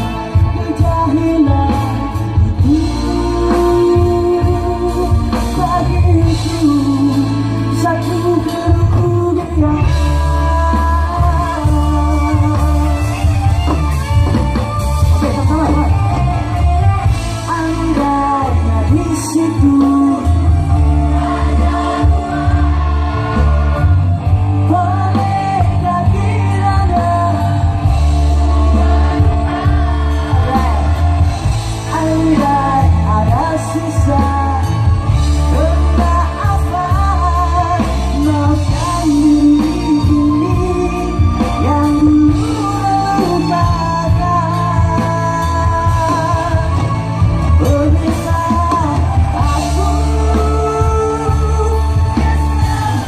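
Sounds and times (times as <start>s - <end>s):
electric guitar: 0.0s - 53.0s
heavy bass: 0.0s - 53.0s
man singing: 0.0s - 53.0s.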